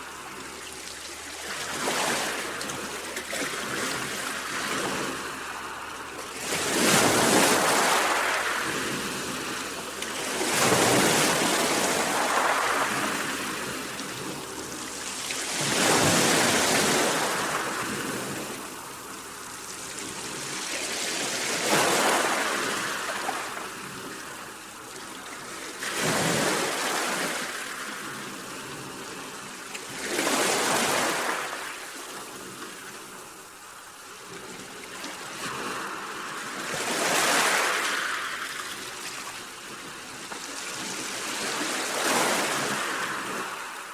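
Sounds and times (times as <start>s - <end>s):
sea waves breaking on shore: 0.0s - 43.9s.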